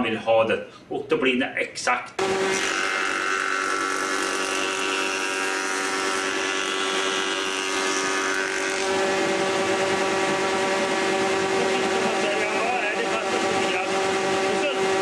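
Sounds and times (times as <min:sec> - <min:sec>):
jointer-planer whining: 0:02.2 - 0:15.0.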